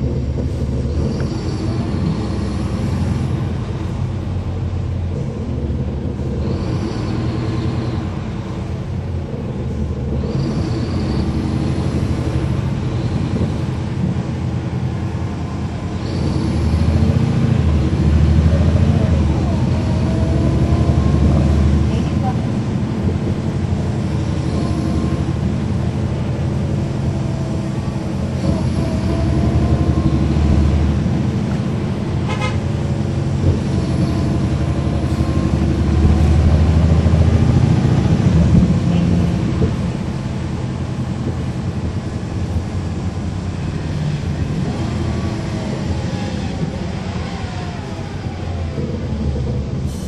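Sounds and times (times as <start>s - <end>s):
bus diesel engine running: 0.0s - 50.0s.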